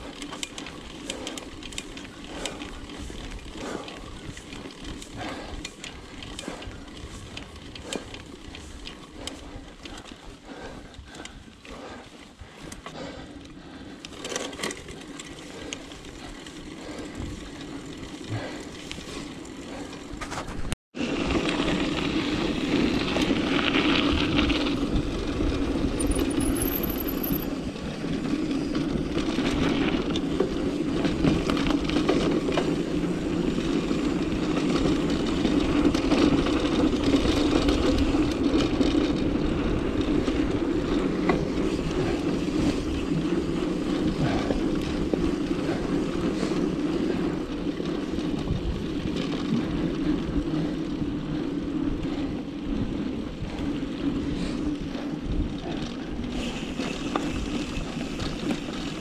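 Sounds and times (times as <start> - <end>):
bike rattle: 0.0 - 59.0
bike tyres rolling on dirt: 0.0 - 59.0.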